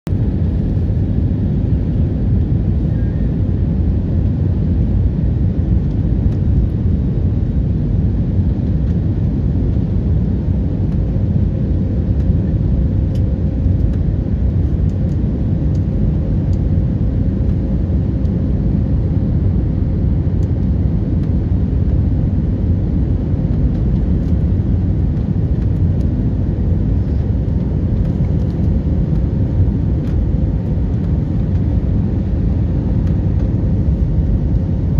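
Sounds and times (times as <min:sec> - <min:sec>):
airliner rumble: 0:00.1 - 0:34.9.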